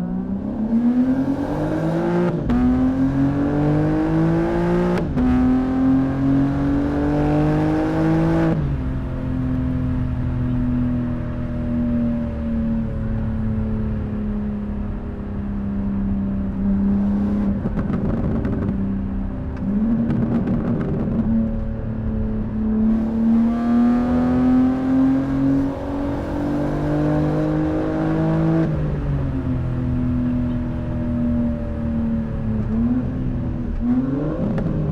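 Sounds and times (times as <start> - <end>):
car engine revving: 0.0 - 10.2, 16.5 - 18.8, 19.5 - 34.9.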